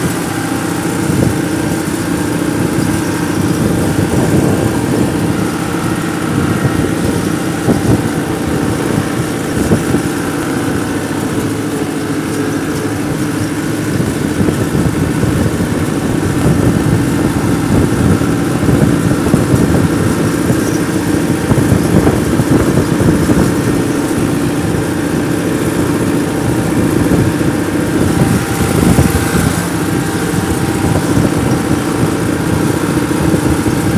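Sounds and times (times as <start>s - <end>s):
small engine chugging: 0.0s - 33.9s.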